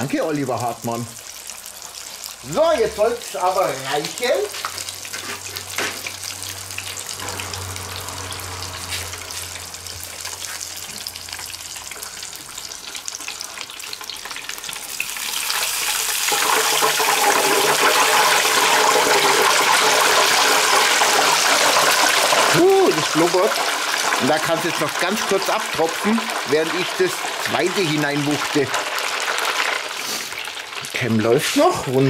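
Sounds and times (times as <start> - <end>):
oil bubbling and sizzling: 0.0 - 32.0.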